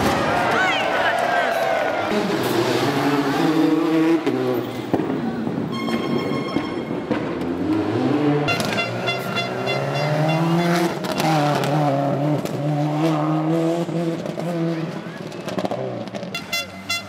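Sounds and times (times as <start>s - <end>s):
rally car engines revving: 1.7s - 16.8s.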